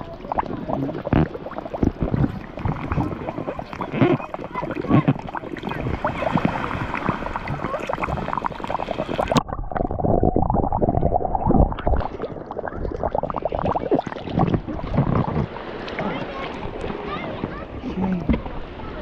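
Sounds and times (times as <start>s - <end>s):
air bubbling out in water: 0.0s - 16.2s.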